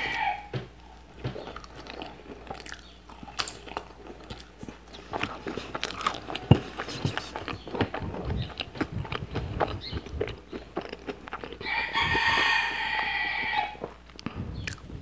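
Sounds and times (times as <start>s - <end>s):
chewing and wet mouth sounds: 1.0s - 15.0s.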